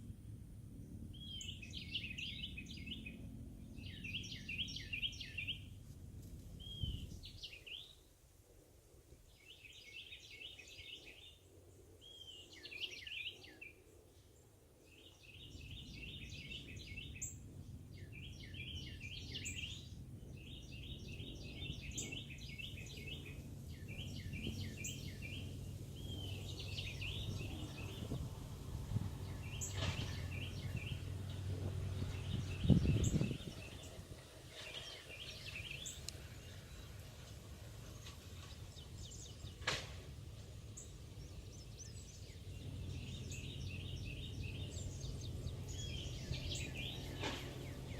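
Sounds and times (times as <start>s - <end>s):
songbird chirping: 0.7s - 8.2s, 9.1s - 47.9s.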